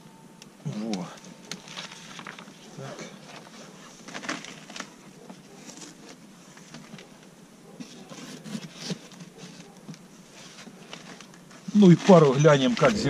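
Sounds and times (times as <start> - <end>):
rustling: 1.3 - 13.0.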